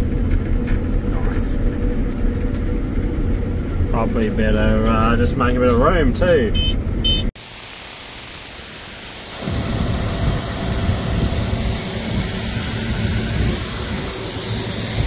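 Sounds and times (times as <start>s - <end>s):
machinery rumbling: 0.0s - 7.2s, 9.3s - 15.0s.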